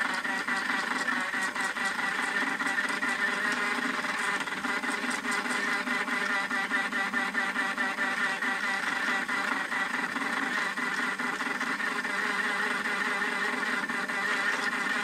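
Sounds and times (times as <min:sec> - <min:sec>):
toy washing machine motor whirring: 0:00.0 - 0:15.0.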